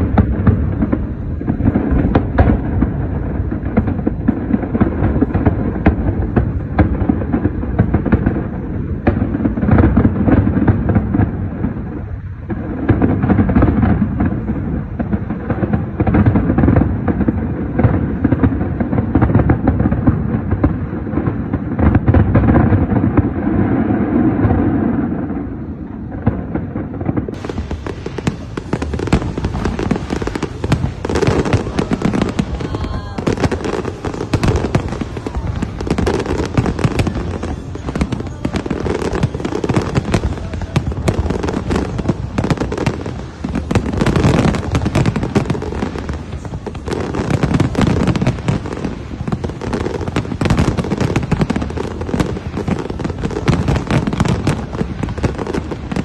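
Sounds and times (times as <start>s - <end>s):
fireworks crackling and banging: 0.0s - 56.0s.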